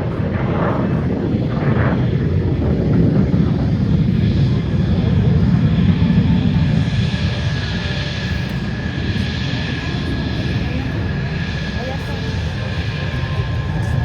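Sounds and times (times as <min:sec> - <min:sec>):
aircraft engine rumble: 0:00.0 - 0:14.0.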